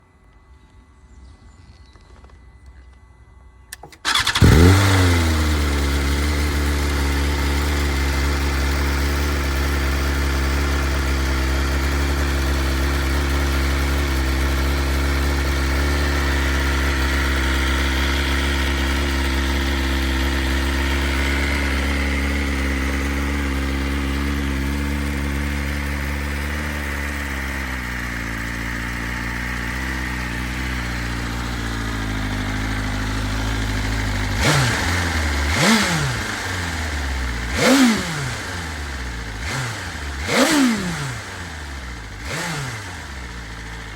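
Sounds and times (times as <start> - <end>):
motorcycle engine idling: 3.7 - 43.9.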